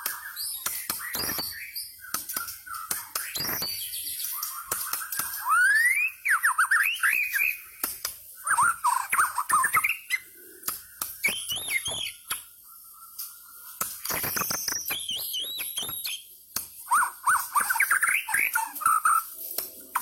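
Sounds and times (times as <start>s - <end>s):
bird singing whistles and clicks: 0.0s - 20.0s.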